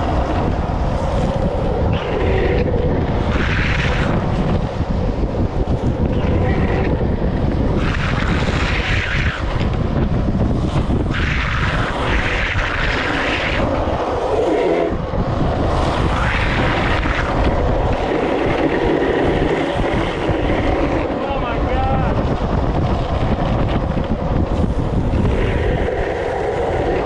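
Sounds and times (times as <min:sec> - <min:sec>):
longboard wheels rumbling on asphalt: 0:00.0 - 0:27.0
wind rushing over microphone: 0:00.0 - 0:27.0.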